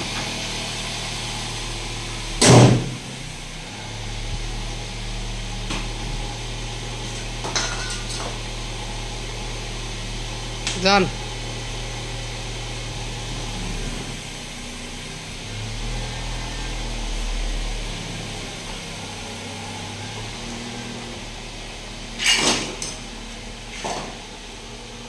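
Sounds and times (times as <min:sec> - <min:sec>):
engine hum: 0:00.0 - 0:25.0.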